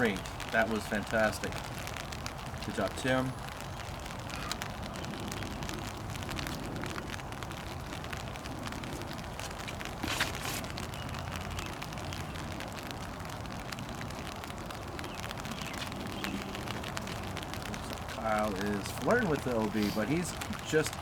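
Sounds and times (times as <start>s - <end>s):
outdoor crackling noise: 0.0s - 21.0s.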